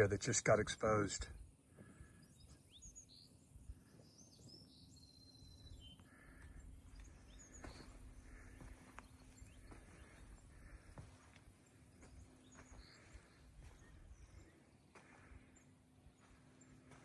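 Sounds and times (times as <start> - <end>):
insect drone: 0.0 - 17.0
bird chirps: 2.0 - 17.0.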